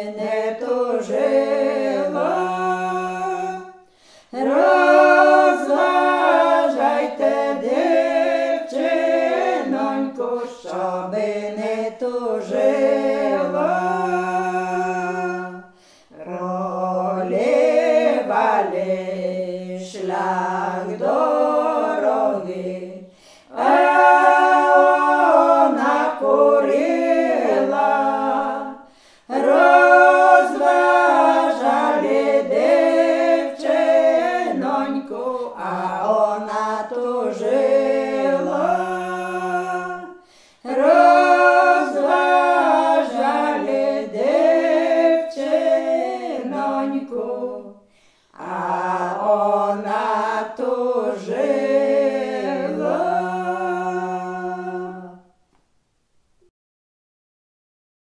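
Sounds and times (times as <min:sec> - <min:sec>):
women singing a cappella: 0:00.0 - 0:55.4.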